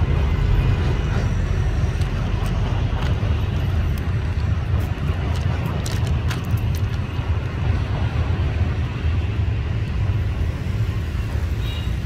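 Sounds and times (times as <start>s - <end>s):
freight train rumbling over bridge: 0.0s - 12.0s.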